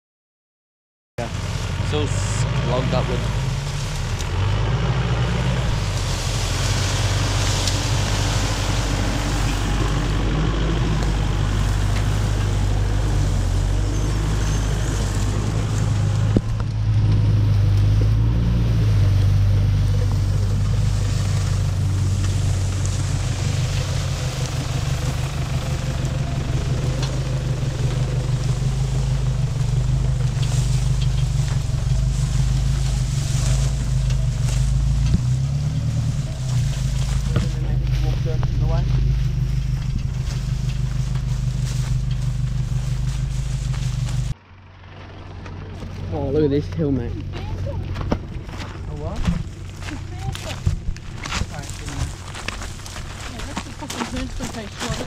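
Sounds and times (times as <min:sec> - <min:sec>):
vehicle engine at low revs: 0:01.2 - 0:55.0.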